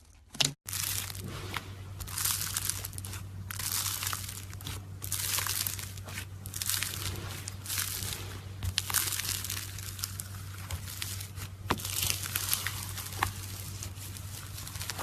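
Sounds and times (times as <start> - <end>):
low hum: 0.7 - 15.0
slime squished by hand: 0.7 - 15.0.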